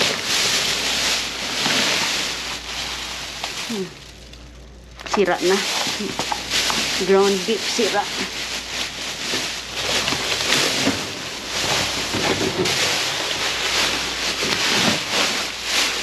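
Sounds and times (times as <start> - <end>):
plastic bags rustling: 0.0 - 16.0.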